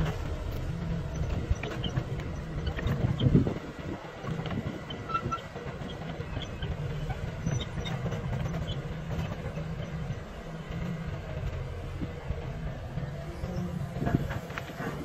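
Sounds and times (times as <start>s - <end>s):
excavator diesel engines rumbling: 0.0s - 15.0s.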